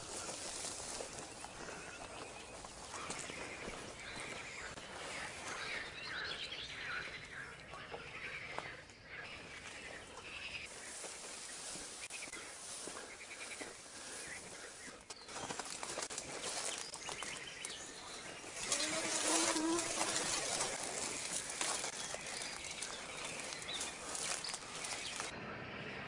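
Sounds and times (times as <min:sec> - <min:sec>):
brush rustling and crackling: 0:00.0 - 0:06.3, 0:09.4 - 0:25.3.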